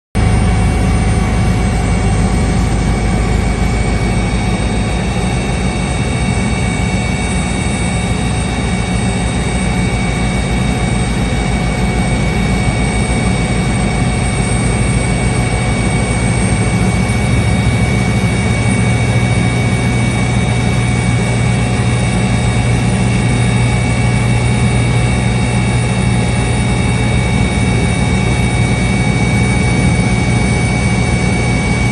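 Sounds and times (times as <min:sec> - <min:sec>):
helicopter engine and rotor: 0:00.2 - 0:31.9.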